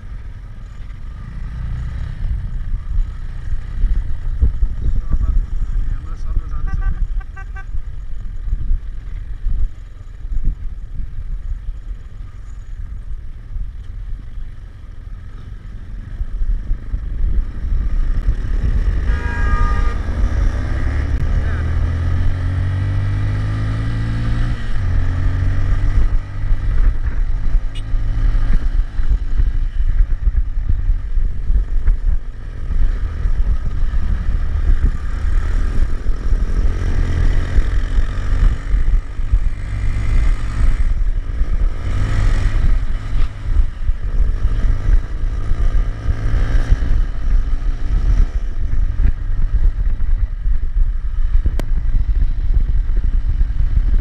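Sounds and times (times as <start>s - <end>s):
motorcycle engine accelerating: 0.0s - 54.0s
wind rumble on microphone: 0.0s - 54.0s.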